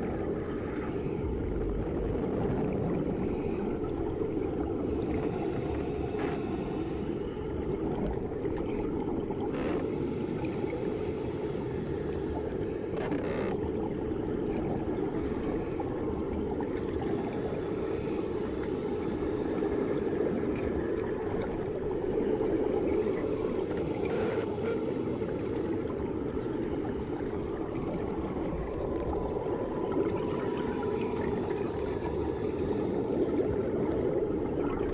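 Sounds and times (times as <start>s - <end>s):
muffled underwater rumbling wash: 0.0s - 34.9s.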